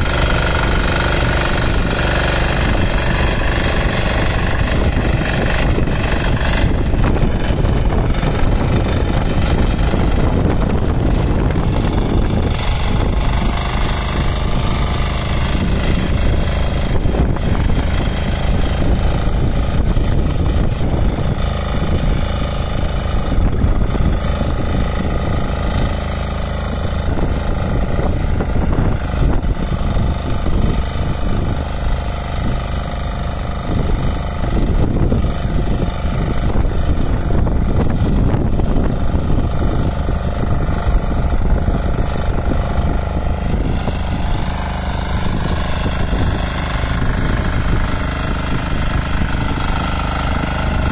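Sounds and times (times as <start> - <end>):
diesel engine running under load: 0.0 - 50.9
tines churning through soil: 0.0 - 50.9.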